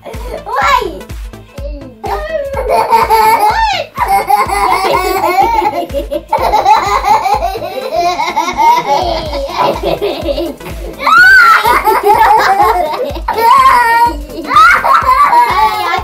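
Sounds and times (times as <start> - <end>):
girls laughing: 2.1 - 16.0.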